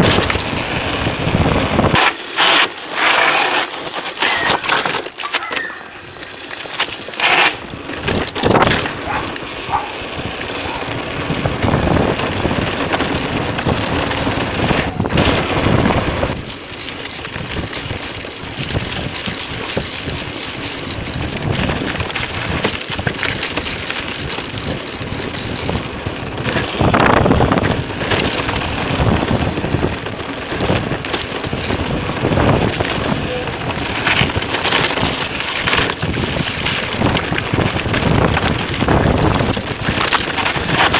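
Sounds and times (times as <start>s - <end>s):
wind rushing over microphone: 0.0s - 3.3s, 5.6s - 40.9s
bike chain and suspension rattling: 0.0s - 40.9s.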